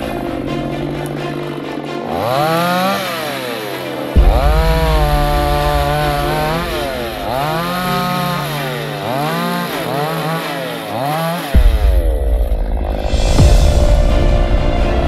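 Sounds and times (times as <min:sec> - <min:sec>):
chainsaw cutting branches: 0:00.0 - 0:13.6.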